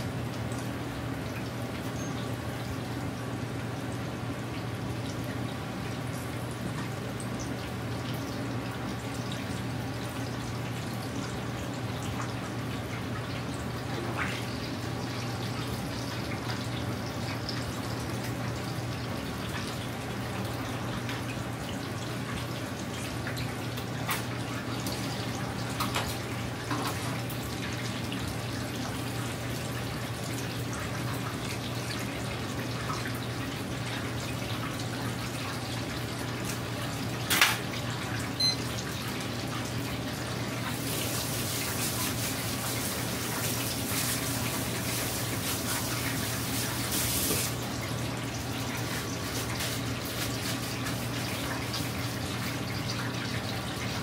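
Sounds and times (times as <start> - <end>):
oil sizzling and bubbling: 0.0 - 54.0.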